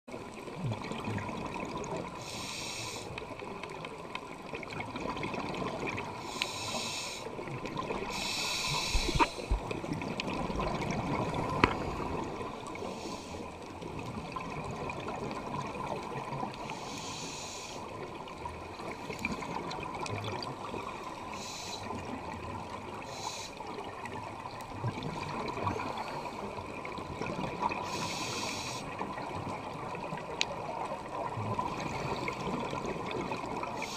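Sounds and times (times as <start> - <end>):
exhaled bubbles underwater: 0.1 - 2.3, 3.2 - 17.2, 17.8 - 33.9
steady underwater hiss: 1.2 - 4.8, 5.4 - 33.9.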